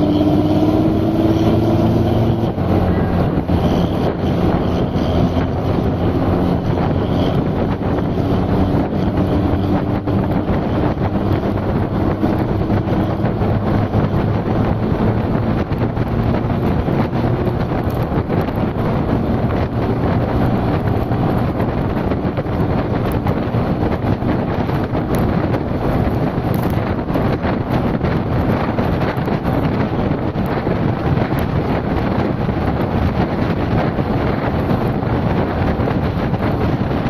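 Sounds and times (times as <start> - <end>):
heavy wind noise on microphone: 0.0 - 37.0.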